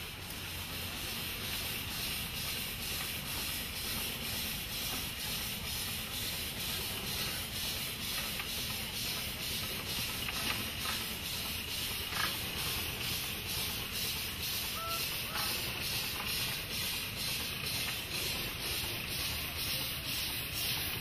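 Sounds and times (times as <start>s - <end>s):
steam hissing from traction engine: 0.0s - 21.0s.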